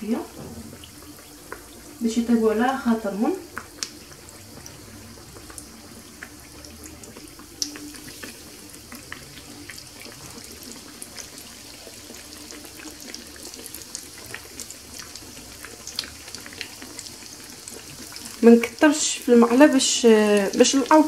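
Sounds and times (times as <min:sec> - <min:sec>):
dough frying in hot oil: 0:00.0 - 0:21.0.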